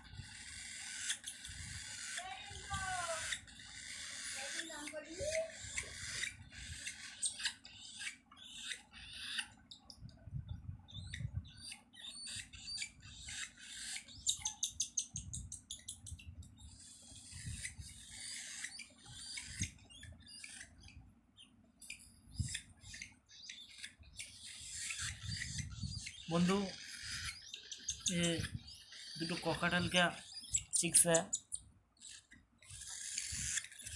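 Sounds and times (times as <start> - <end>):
parrots chirping and squawking: 0.2 - 9.9, 11.0 - 33.9.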